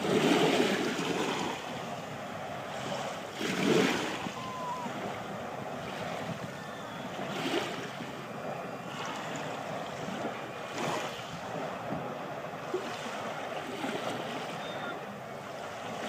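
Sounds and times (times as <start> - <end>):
small waves lapping on shore: 0.0 - 16.0
wind on microphone: 0.0 - 16.0.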